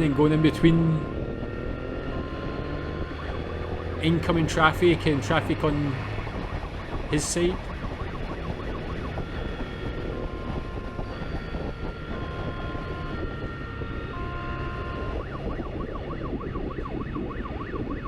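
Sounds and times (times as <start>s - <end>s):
engine and road rumble: 0.0s - 18.0s
motorcycle siren: 0.0s - 18.0s.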